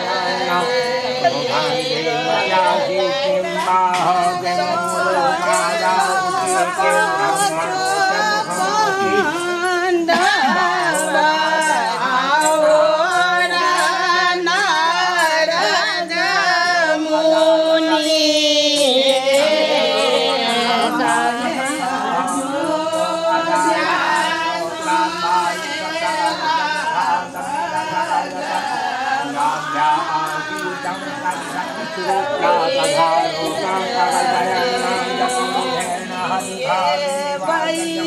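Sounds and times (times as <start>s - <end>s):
women singing together: 0.0s - 38.0s.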